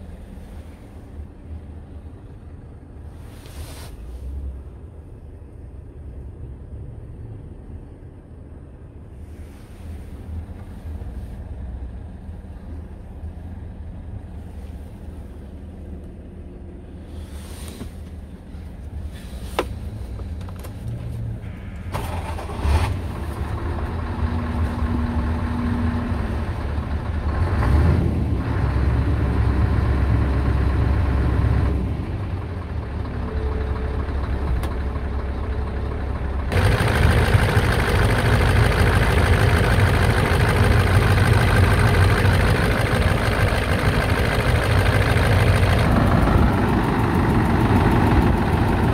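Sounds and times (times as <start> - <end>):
diesel truck engine idling: 4.0 - 48.9.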